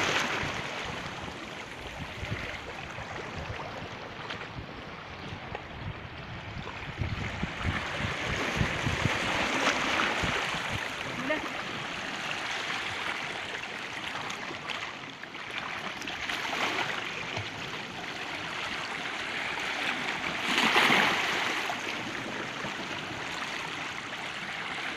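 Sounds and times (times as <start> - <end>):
sea waves washing onto shore: 0.0 - 2.7, 7.3 - 24.9.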